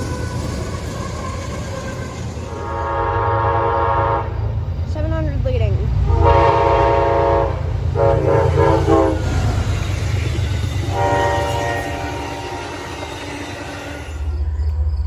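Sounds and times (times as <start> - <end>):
locomotive air horn: 0.0 - 4.4, 6.1 - 14.4
train rumble: 0.0 - 15.0.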